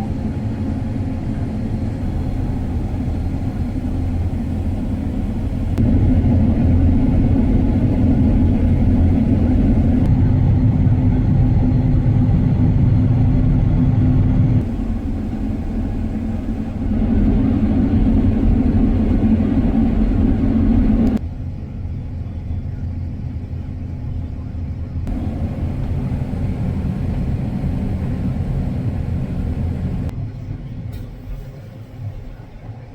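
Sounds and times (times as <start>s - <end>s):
combine harvester rumble: 0.0s - 21.7s, 22.3s - 32.8s.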